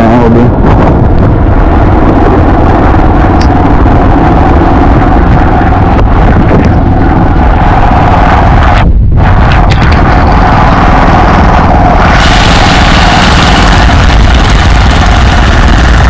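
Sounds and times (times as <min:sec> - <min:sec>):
motorcycle engine running: 0:00.0 - 0:16.0
wind rushing over microphone: 0:00.0 - 0:16.0.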